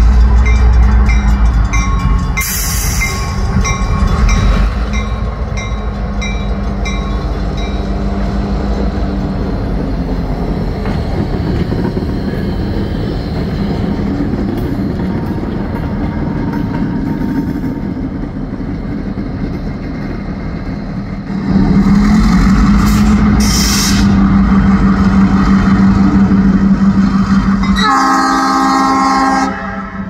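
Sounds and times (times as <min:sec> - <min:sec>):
diesel locomotive engine drone: 0:00.0 - 0:30.0
track rumble: 0:00.0 - 0:30.0.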